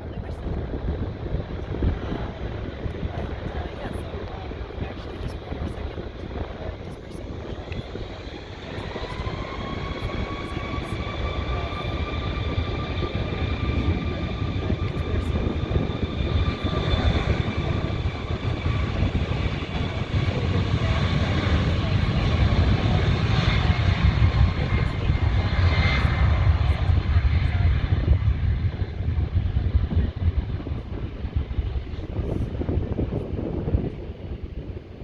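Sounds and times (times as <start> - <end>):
jet engine rumble: 0.0 - 35.0
jet engine whine: 0.0 - 35.0.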